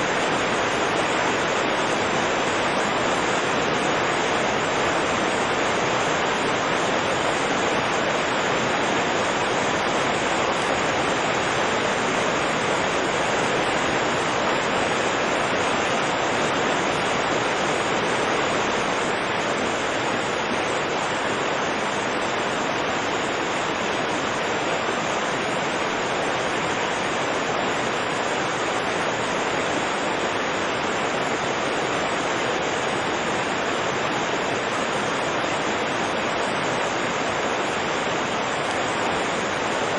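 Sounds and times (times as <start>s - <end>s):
river rushing over rapids: 0.0s - 39.9s.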